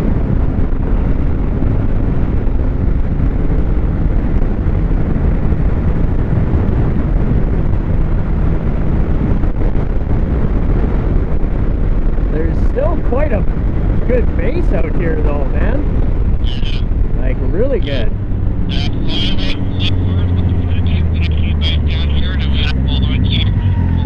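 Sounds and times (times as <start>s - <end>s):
snowmobile engine running: 0.0s - 24.0s
wind on microphone: 0.0s - 24.0s.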